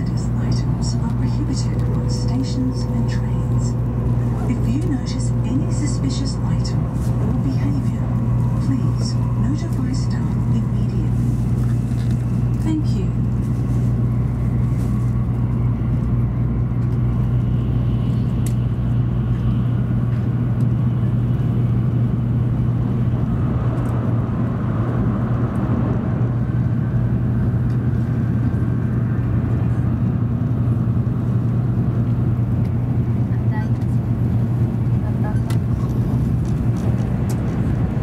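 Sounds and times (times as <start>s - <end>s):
low hum: 0.0s - 38.0s
train running rumble: 0.0s - 38.0s.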